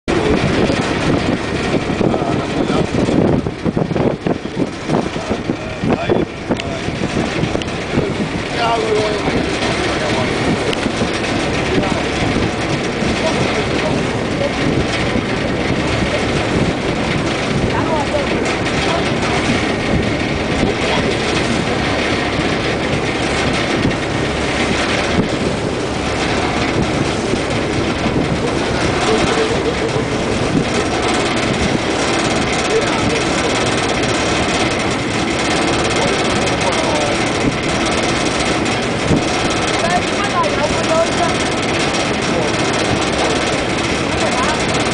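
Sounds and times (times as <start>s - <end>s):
ferry engine running: 0.0s - 44.9s
wind gusting over microphone: 0.0s - 44.9s.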